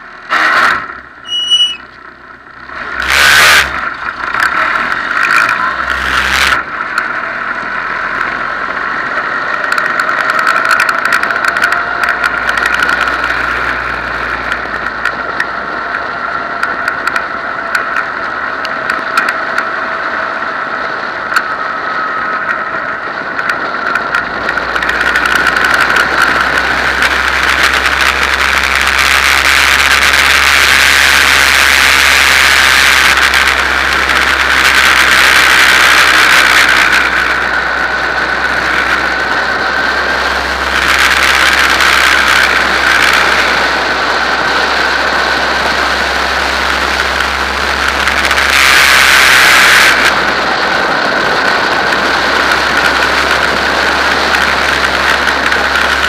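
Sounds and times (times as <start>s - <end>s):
race car engine running: 0.0s - 56.0s.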